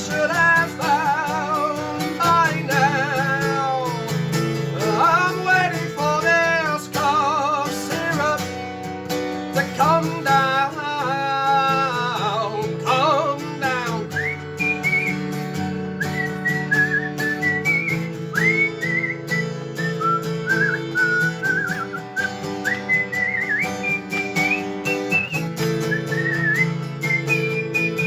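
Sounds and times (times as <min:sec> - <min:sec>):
acoustic guitar chords: 0:00.0 - 0:28.0
whistled melody: 0:00.1 - 0:08.4, 0:09.5 - 0:28.0.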